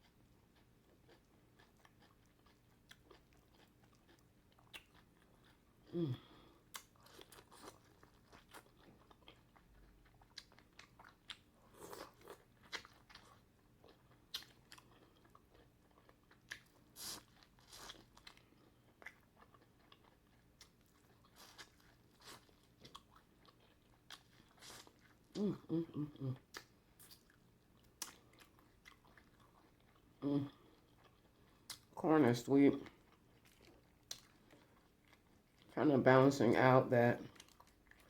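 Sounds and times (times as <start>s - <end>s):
person chewing food: 0.0s - 32.0s, 32.8s - 35.8s, 37.2s - 38.0s.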